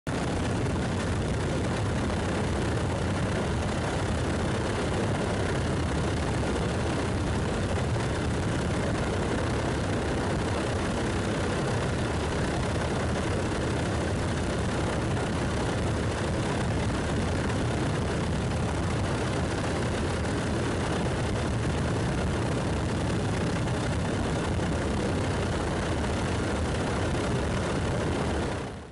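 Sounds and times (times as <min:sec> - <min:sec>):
aircraft engine drone: 0:00.1 - 0:28.9.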